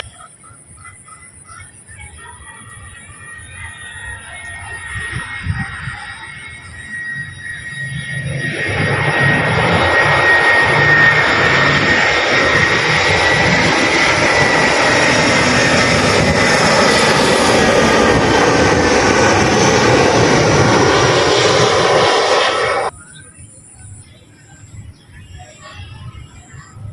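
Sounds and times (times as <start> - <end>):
jet airliner passing: 0.0 - 26.9.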